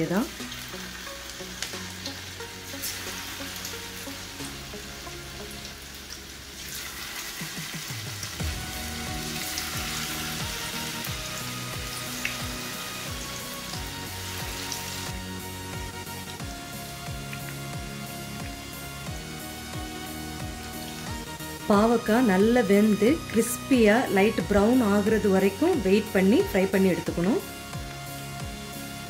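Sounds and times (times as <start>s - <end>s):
background music: 0.0s - 29.0s
food deep-frying in oil: 0.0s - 29.0s.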